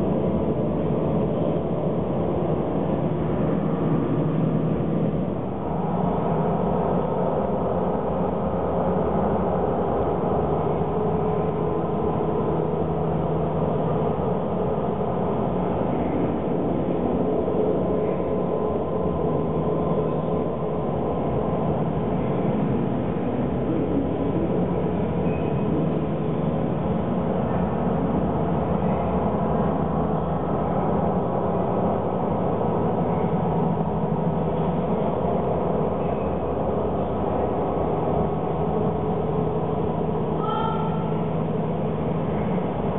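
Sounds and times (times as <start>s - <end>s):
dense drone with held tones: 0.0s - 42.9s.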